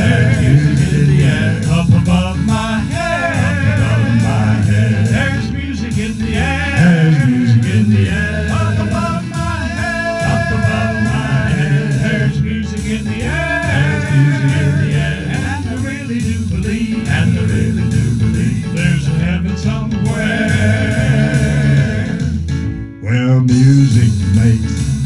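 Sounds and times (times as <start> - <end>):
instrumental accompaniment: 0.0 - 25.0
male vocal group singing gospel: 0.0 - 25.0.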